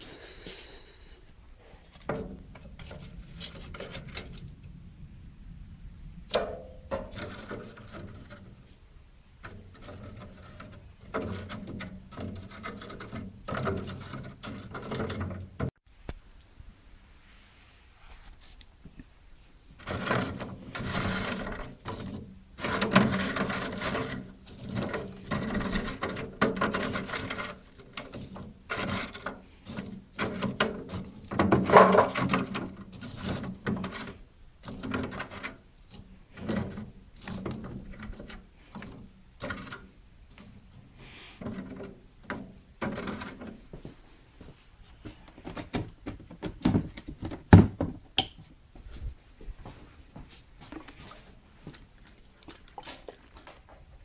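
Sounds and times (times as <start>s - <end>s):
charcoal briquettes knocking and scraping: 1.6s - 4.8s, 6.3s - 15.8s, 18.2s - 48.5s, 50.6s - 54.0s.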